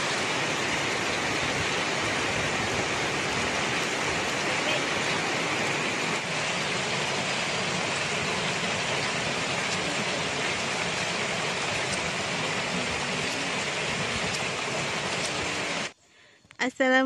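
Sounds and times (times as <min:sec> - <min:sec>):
heavy rain falling: 0:00.0 - 0:15.9.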